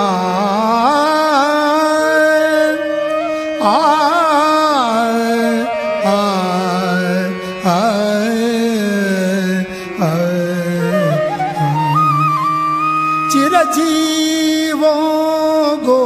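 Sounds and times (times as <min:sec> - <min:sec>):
devotional melody singing: 0:00.0 - 0:16.0.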